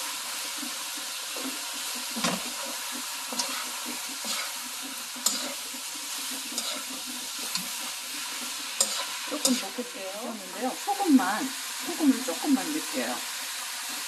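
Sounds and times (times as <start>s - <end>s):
meat sizzling in a wok: 0.0s - 14.0s.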